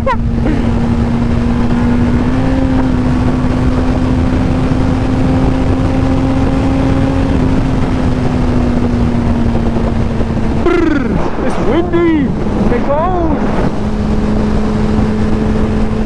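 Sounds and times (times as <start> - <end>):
motorcycle engine cruising: 0.0 - 16.0
wind rushing over microphone: 0.0 - 16.0.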